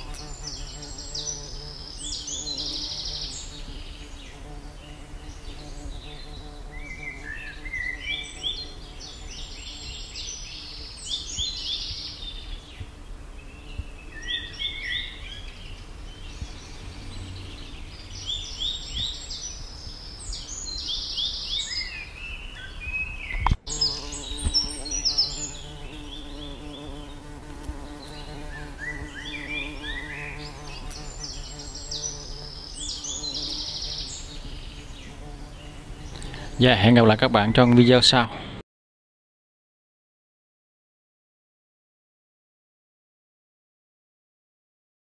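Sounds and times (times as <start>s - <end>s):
birds chirping: 0.0s - 38.6s.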